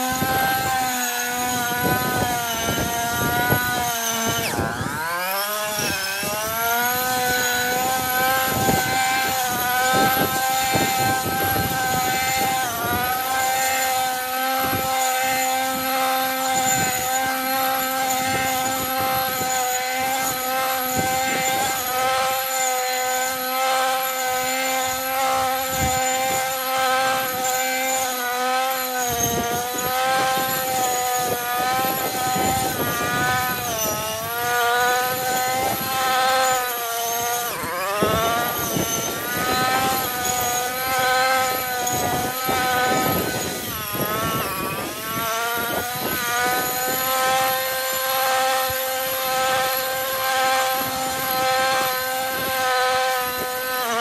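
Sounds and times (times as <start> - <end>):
brushcutter engine at high revs: 0.0 - 54.0.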